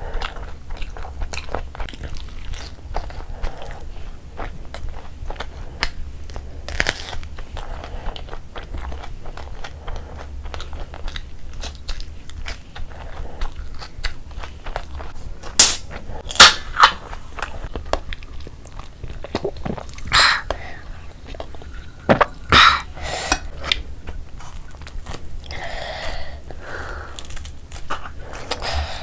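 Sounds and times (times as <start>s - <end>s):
chewing with crunchy bites: 0.0s - 22.5s, 23.4s - 29.0s.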